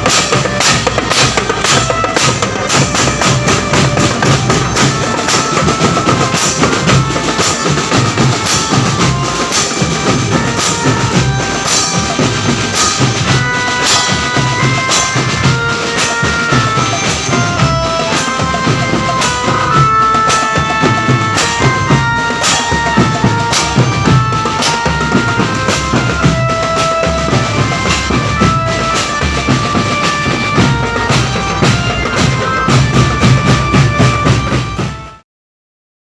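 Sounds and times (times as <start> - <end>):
busy drumming: 0.0 - 35.2
melodic line of held notes: 0.3 - 34.8.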